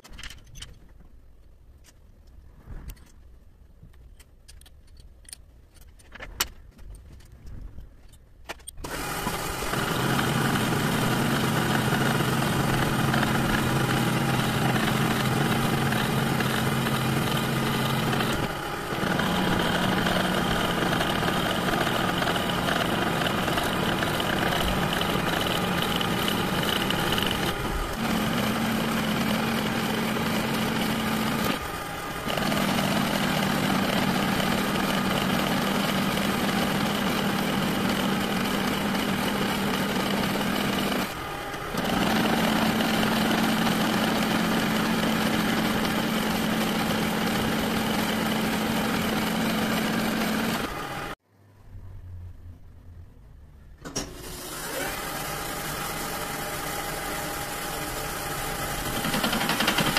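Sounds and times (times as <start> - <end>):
lathe machine hum: 8.8 - 51.2, 54.2 - 59.9.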